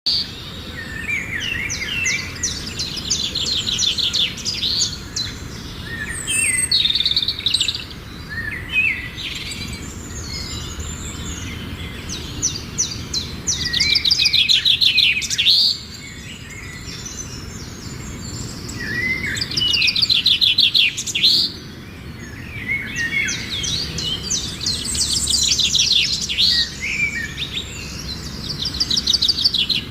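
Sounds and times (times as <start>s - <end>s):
baby finches begging chirps: 0.2s - 29.9s.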